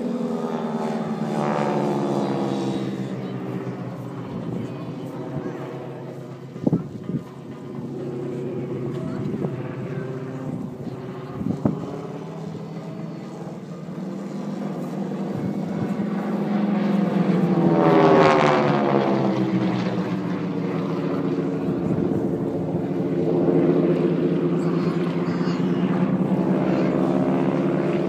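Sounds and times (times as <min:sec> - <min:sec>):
propeller planes flying overhead: 0:00.0 - 0:28.0.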